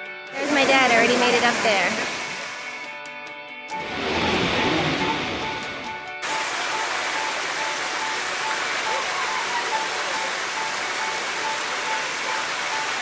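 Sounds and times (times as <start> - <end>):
waterfall rushing: 0.5 - 2.6, 3.7 - 13.0.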